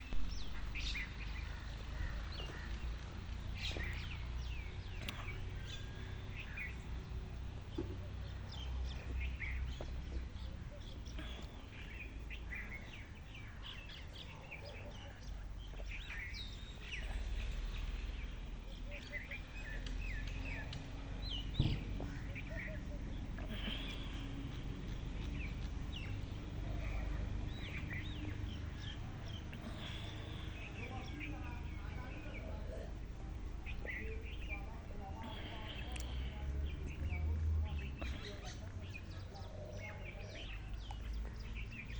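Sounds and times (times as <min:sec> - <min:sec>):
small birds chirping: 0:00.0 - 0:41.9
steady low rumble: 0:00.0 - 0:41.9.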